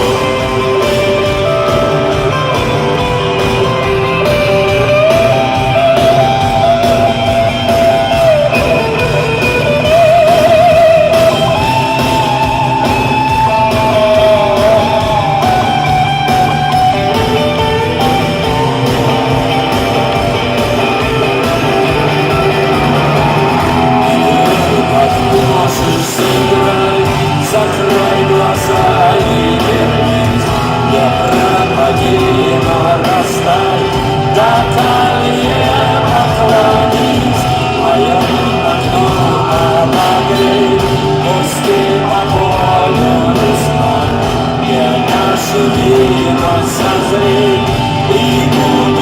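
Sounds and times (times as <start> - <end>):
lead guitar melody: 0.0 - 49.0
live rock band playing: 0.0 - 49.0.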